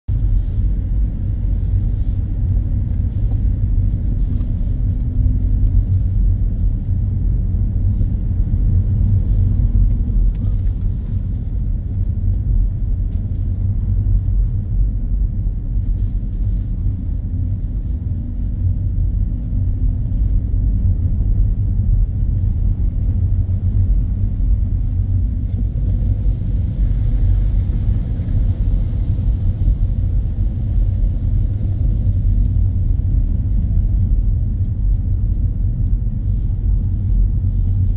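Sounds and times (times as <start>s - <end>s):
engine and tyre rumble: 0.1s - 37.9s.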